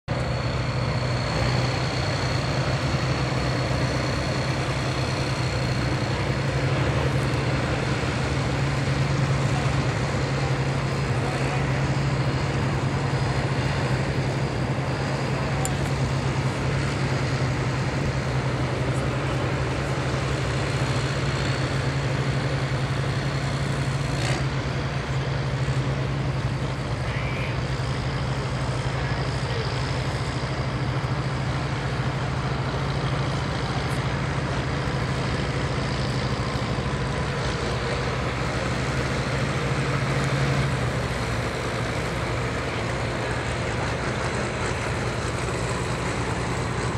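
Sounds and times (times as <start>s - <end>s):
tractor engine running: 0.1s - 46.9s.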